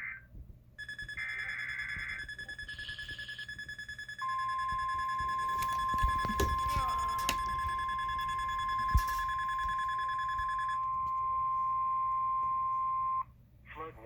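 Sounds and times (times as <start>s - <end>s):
rapidly pulsing high beep: 0.8s - 12.2s
steady warning alarm tone: 0.8s - 13.2s.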